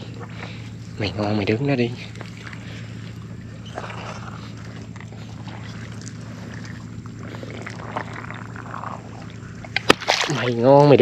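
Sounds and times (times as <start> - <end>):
steady low hum: 0.0 - 11.0
person wading through water: 1.9 - 10.8.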